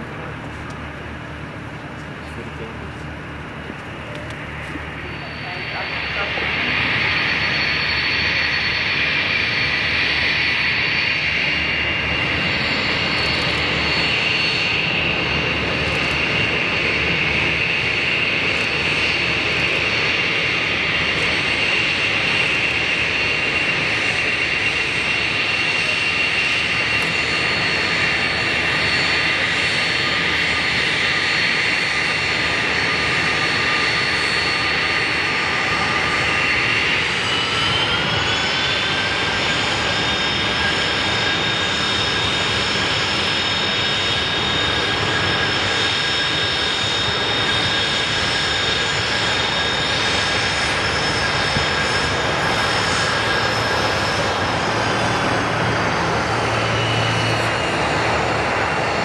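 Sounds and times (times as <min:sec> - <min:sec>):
jet engine high whine: 0:00.0 - 0:59.0
jet engine rushing: 0:00.0 - 0:59.0.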